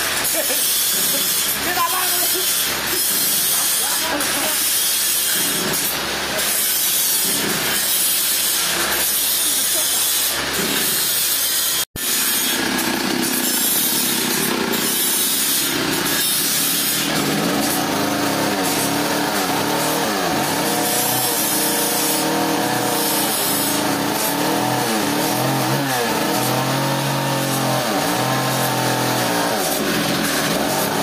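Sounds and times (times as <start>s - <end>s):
saw rasping through wood: 0.0s - 31.0s.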